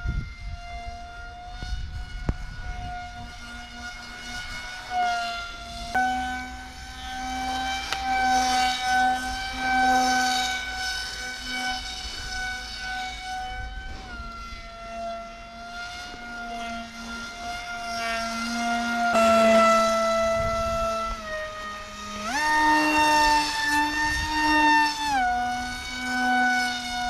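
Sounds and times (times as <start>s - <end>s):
electric motor and propeller whine: 0.0s - 27.0s.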